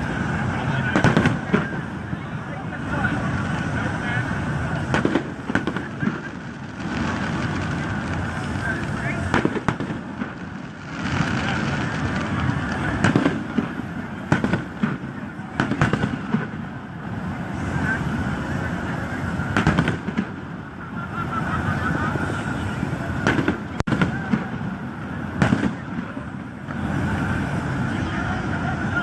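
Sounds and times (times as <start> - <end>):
fireworks bangs: 0.0 - 29.0
fireworks crackle and rumble: 0.0 - 29.0.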